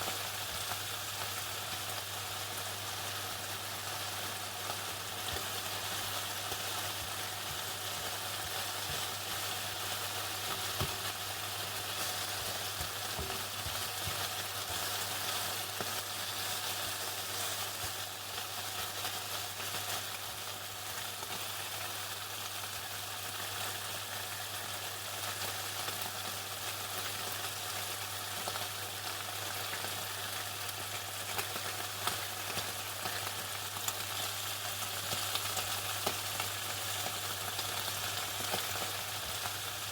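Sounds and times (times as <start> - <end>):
chicken sizzling in hot oil: 0.0 - 39.9.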